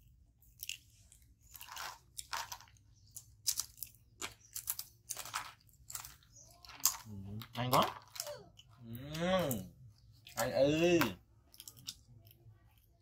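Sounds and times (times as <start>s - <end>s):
monkeys crunching crisp snacks: 0.4s - 13.0s.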